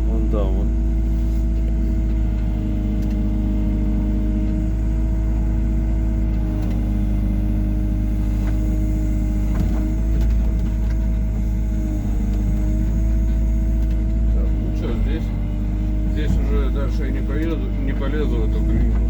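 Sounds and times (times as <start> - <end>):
diesel engine rumble with whine: 0.0 - 19.0.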